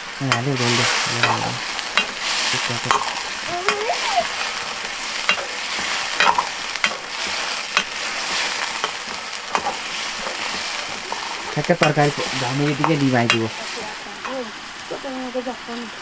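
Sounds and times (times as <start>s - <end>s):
curry sizzling in a pan: 0.0s - 16.0s.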